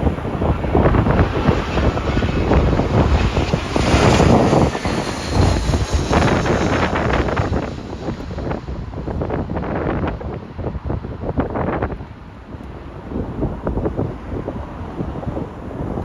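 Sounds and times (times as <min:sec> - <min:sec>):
heavy wind gusting on microphone: 0:00.0 - 0:16.0.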